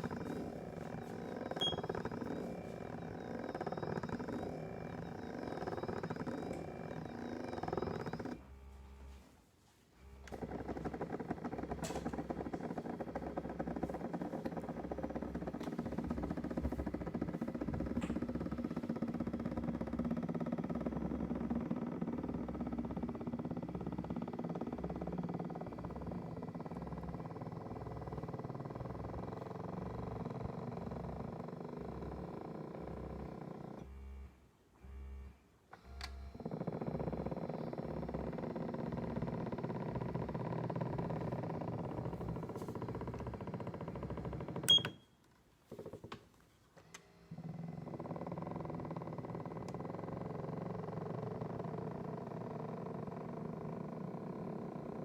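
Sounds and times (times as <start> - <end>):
massage seat motor rattling: 0.0 - 9.3, 10.0 - 55.0.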